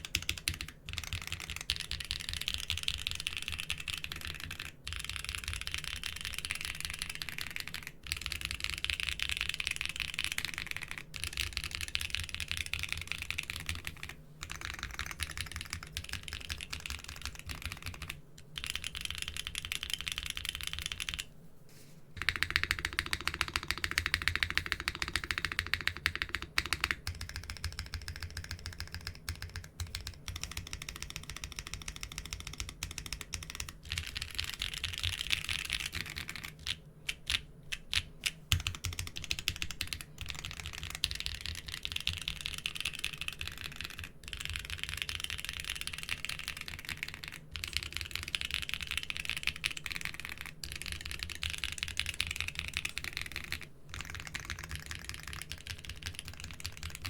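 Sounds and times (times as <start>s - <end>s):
mechanical keyboard typing: 0.0s - 21.3s, 22.2s - 57.0s.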